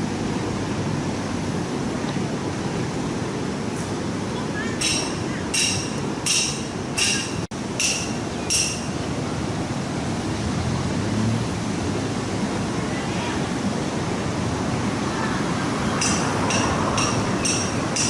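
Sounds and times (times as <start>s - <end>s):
sea surf: 0.0s - 18.0s
wind: 0.0s - 18.0s.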